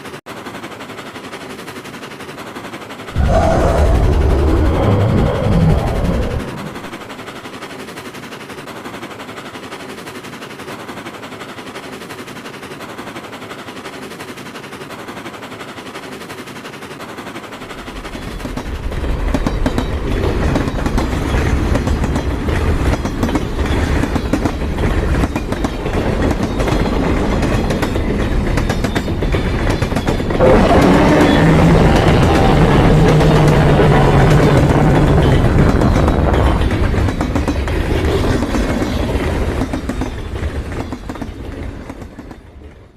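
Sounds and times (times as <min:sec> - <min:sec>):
freight train rumbling and clacking: 0:00.0 - 0:42.9.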